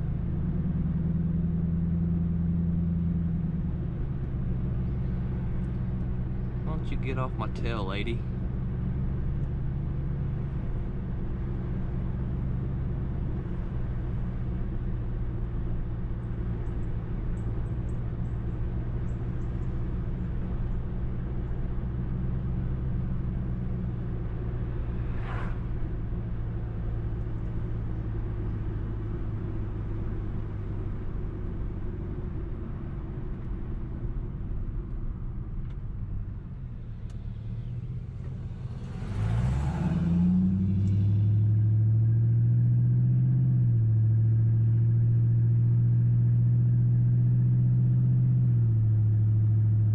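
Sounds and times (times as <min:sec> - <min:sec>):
car engine droning at cruise: 0:00.0 - 0:49.9.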